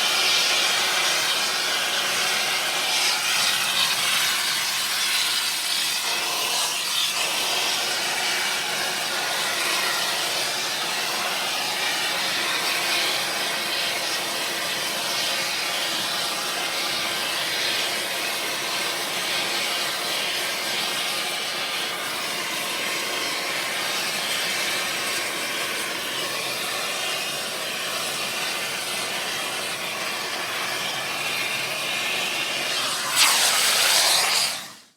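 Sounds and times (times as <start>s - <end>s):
air torch hissing: 0.0s - 34.9s.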